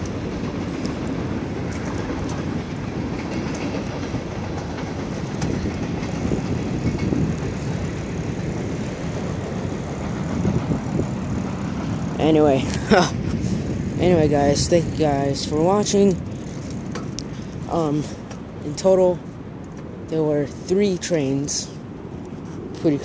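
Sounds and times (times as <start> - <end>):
train wheels clickety-clack: 0.0 - 18.5.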